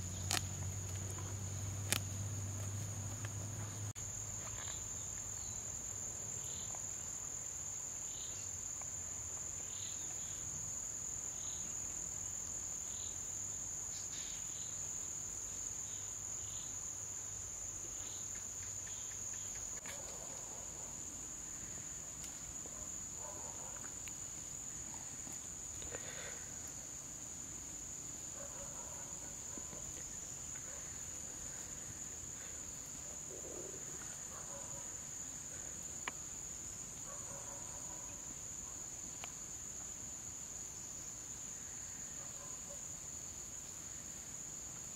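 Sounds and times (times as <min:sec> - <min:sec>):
insects droning: 0:00.0 - 0:44.9.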